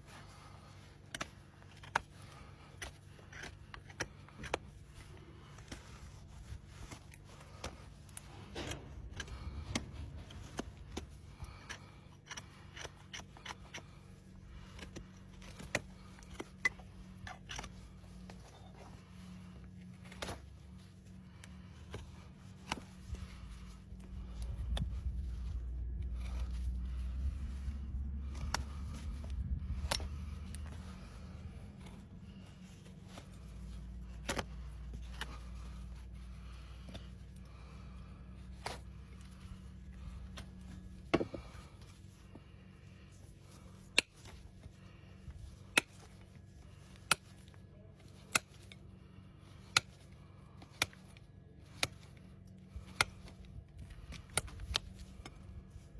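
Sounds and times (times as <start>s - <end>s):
low steady rumble: 0.0s - 55.9s
hoof trimming snips and clicks: 0.2s - 55.9s.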